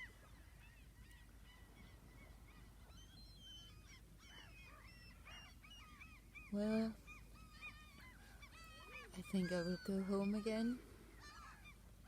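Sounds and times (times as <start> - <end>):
distant flock of birds calling: 0.0 - 12.0.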